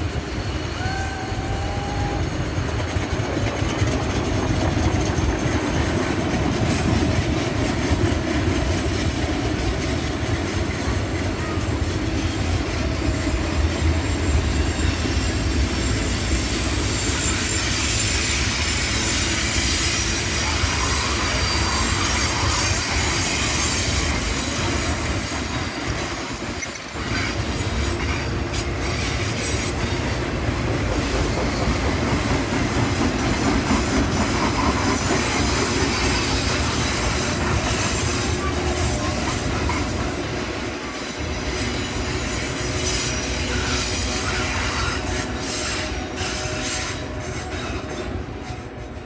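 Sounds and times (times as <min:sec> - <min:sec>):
freight train wheels on rails: 0:00.0 - 0:49.0.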